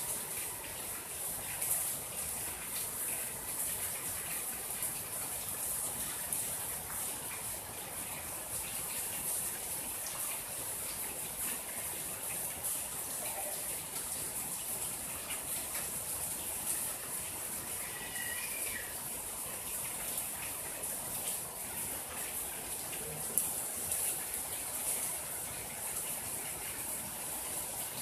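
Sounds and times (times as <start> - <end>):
rain on leaves and ground: 0.0 - 28.0.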